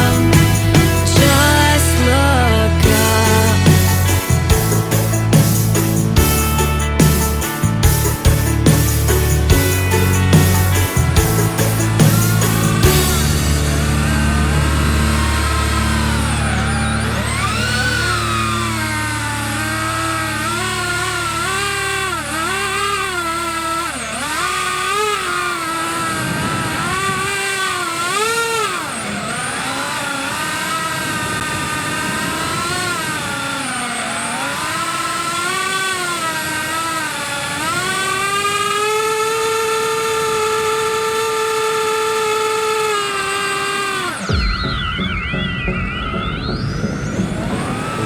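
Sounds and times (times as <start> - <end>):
drone motors whining: 0.0 - 48.0.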